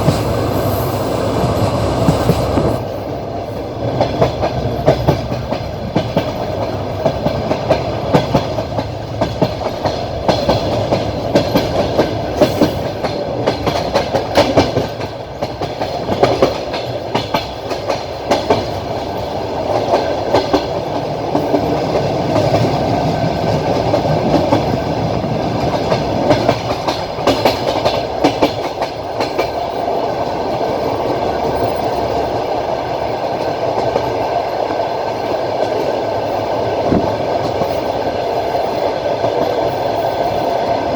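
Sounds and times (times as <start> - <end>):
train rolling rumble: 0.0 - 40.9
train wheels clattering over rail joints: 3.8 - 40.8.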